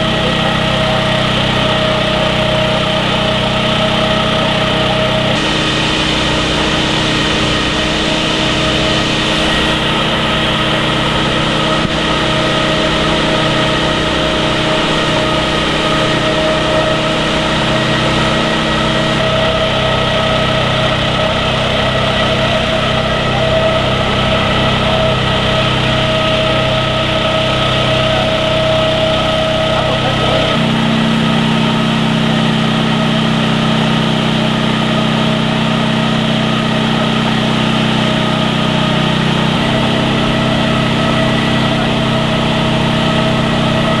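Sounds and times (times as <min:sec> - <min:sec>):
fire engine running: 0:00.0 - 0:44.0
steady whine: 0:00.0 - 0:44.0.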